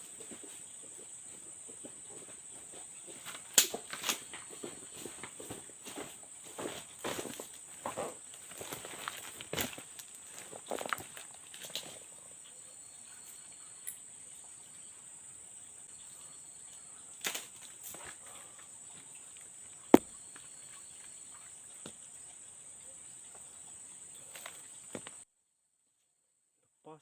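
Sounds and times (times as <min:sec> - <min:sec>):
insects chirring: 0:00.0 - 0:25.3.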